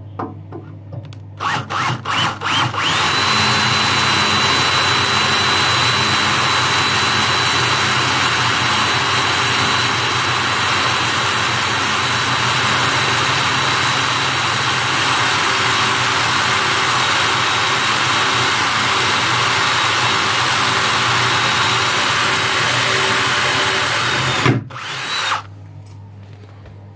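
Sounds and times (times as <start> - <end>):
electric drill grinding into cast iron: 1.4 - 25.5.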